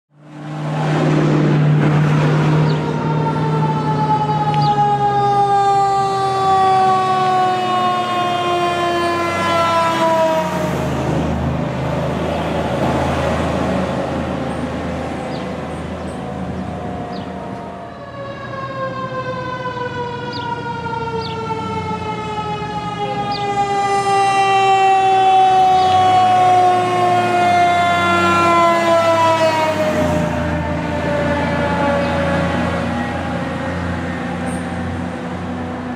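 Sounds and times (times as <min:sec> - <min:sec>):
truck and road noise: 0:00.1 - 0:35.9
fire truck siren wailing: 0:00.2 - 0:35.9.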